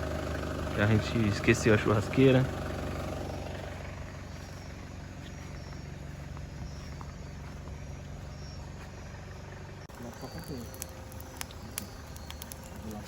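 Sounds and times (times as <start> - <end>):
vehicle engine idling: 0.0 - 13.0
night insects chirping: 0.8 - 13.0.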